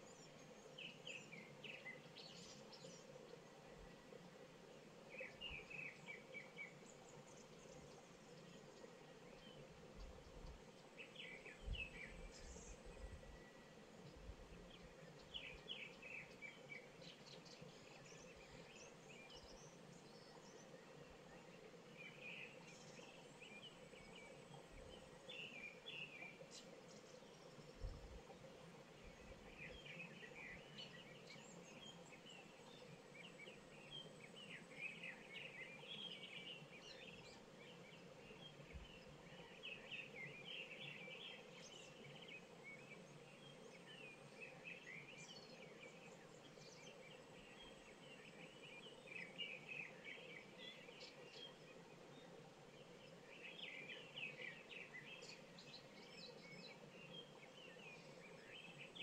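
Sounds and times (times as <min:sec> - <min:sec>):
birds chirping and twittering: 0:00.0 - 0:59.0
faint steady background hum: 0:00.0 - 0:59.0.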